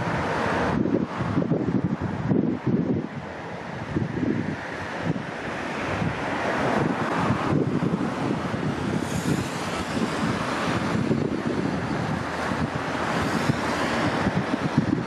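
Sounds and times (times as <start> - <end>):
highway traffic: 0.0 - 15.0
wind buffeting microphone: 0.0 - 15.0.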